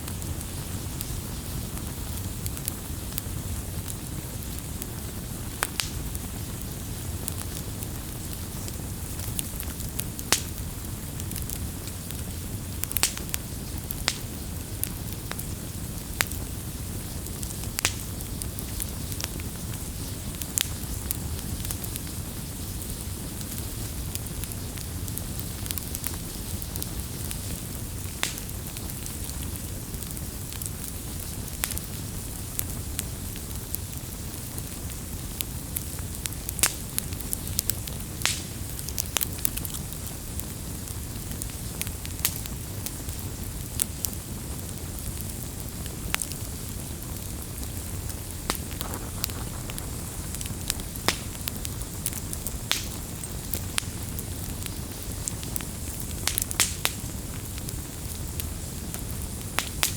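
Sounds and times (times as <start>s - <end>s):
fire crackles and pops: 0.0s - 59.9s
wood fire burning: 0.0s - 59.9s.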